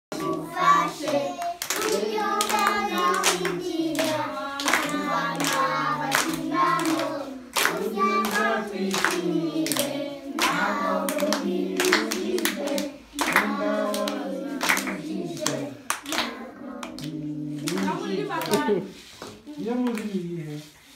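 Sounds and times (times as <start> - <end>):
children singing together: 0.1 - 18.4
children clapping hands: 0.1 - 20.1.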